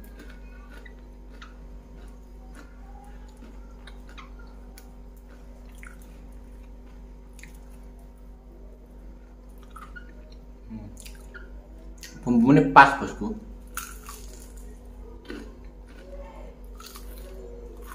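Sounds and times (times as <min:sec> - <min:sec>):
chewing crispy food: 0:00.0 - 0:12.2, 0:13.6 - 0:17.9
faint steady hum: 0:00.0 - 0:17.9.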